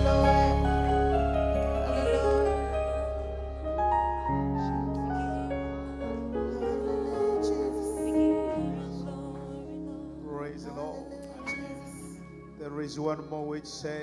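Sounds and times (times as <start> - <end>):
keyboard playing slow chords: 0.0 - 14.0.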